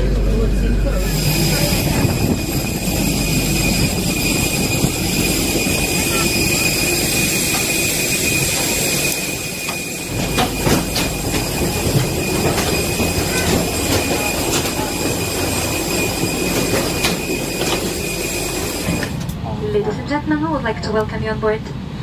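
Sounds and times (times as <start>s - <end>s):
machinery whine and rumble: 0.0s - 22.0s.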